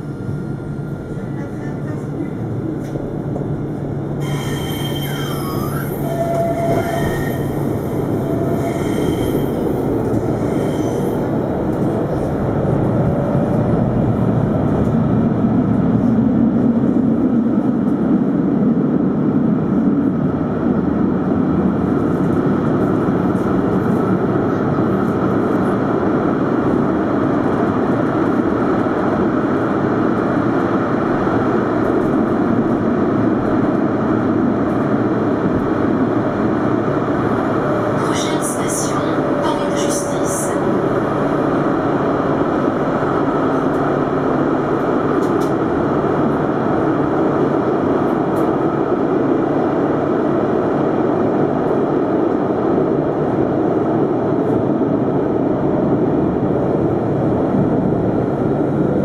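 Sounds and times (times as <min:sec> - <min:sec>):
tram rolling and motor rumble: 0:00.0 - 0:59.0.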